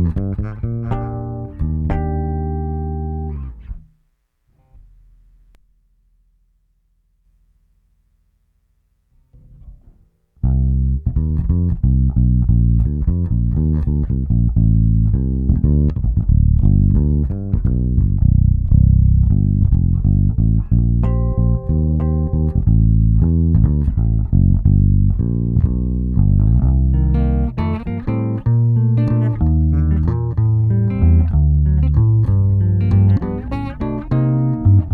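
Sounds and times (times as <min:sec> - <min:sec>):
electric bass guitar notes: 0:00.0 - 0:03.9, 0:10.4 - 0:34.9.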